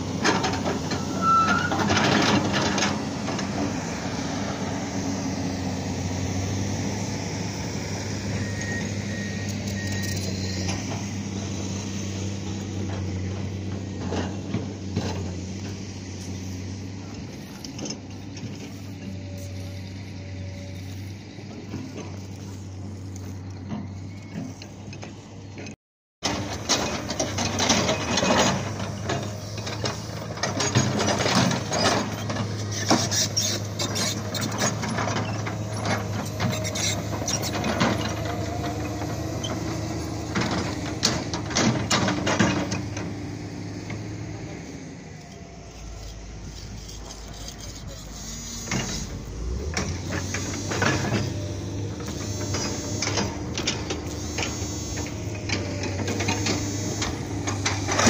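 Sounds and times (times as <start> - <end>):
excavator knocks and clanks: 0.0 - 7.1, 7.8 - 58.0
excavator diesel engine running: 0.0 - 58.0.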